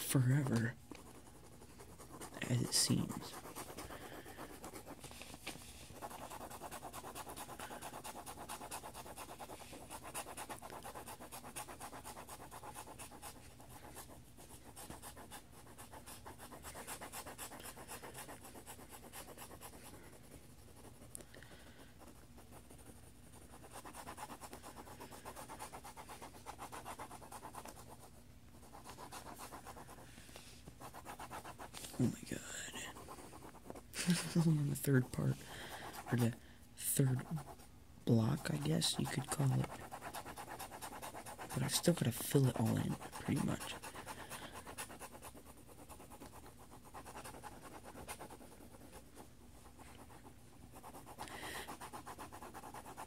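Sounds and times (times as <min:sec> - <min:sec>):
pencil scratching on paper: 0:00.0 - 0:53.0.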